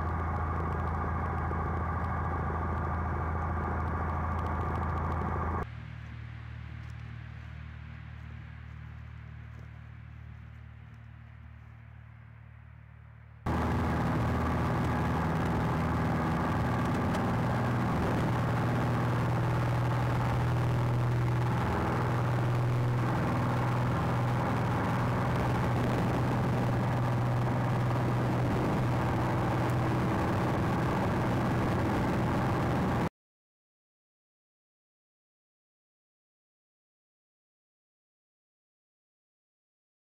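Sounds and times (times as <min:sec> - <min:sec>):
airplane engine and propeller drone: 0:00.0 - 0:33.1.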